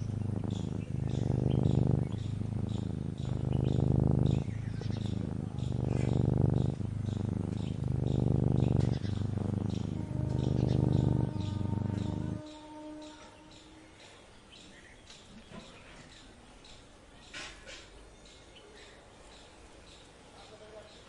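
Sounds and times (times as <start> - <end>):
cat purring: 0.0 - 18.0
small birds chirping: 0.0 - 21.0.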